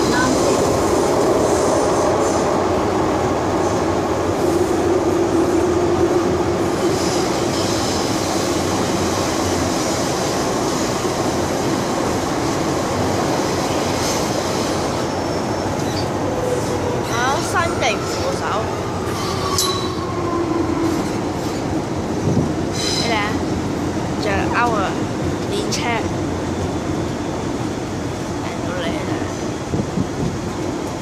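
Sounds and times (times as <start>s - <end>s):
train hum: 0.0s - 31.0s.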